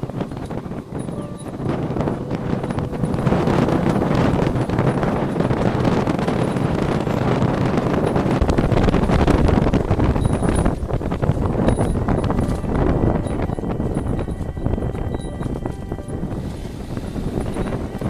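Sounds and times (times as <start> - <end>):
small clicks and rattles: 0.0 - 16.2
vehicle engine and road rumble: 0.0 - 18.0
wind buffeting microphone: 0.0 - 18.0.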